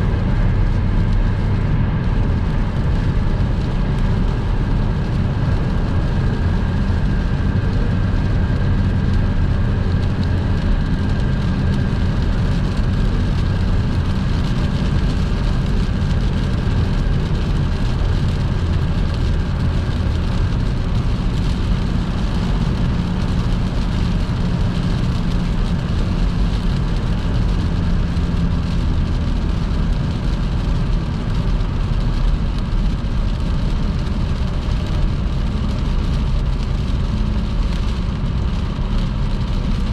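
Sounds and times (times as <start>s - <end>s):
car engine: 0.0s - 39.9s
rain hitting car: 0.0s - 39.9s
tyres on wet road: 0.0s - 39.9s.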